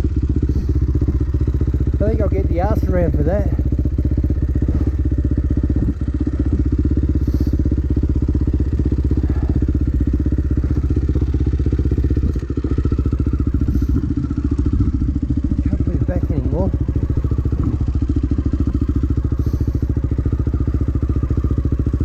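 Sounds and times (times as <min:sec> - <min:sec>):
dirt bike engine idling: 0:00.0 - 0:22.0.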